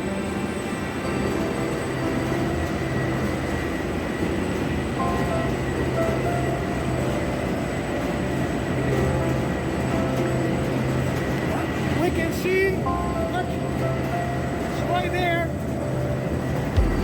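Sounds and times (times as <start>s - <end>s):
constant machine hum: 0.0s - 17.0s
conveyor and sorting machinery: 0.0s - 17.0s.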